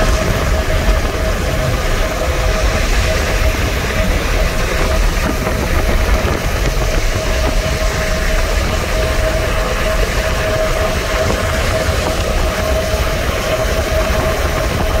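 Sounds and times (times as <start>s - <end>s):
wind hiss: 0.0s - 15.0s.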